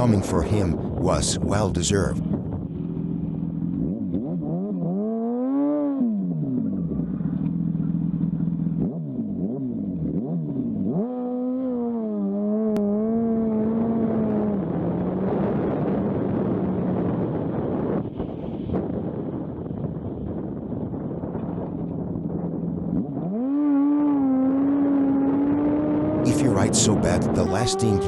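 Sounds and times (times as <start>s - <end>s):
motorcycle engine revving: 2.2s - 28.0s.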